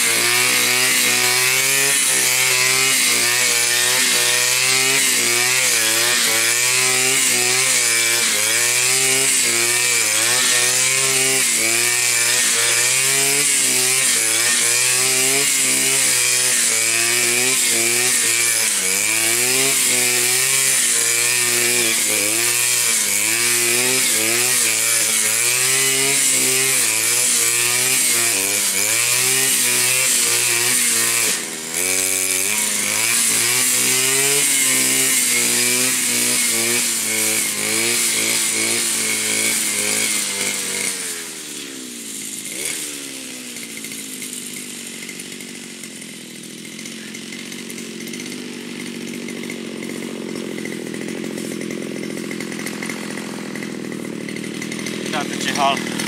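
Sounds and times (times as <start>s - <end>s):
brush cutter cutting grass: 0.0s - 56.0s.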